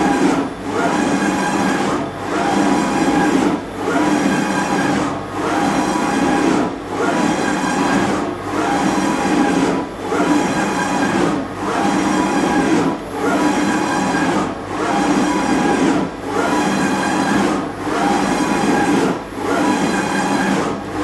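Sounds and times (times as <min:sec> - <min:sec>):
surface grinder running: 0:00.0 - 0:20.6.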